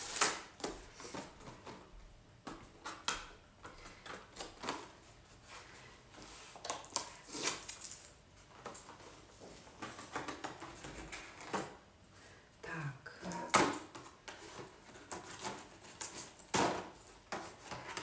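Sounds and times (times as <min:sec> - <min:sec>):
cardboard and plastic rustling: 0:00.0 - 0:11.8, 0:13.6 - 0:18.0.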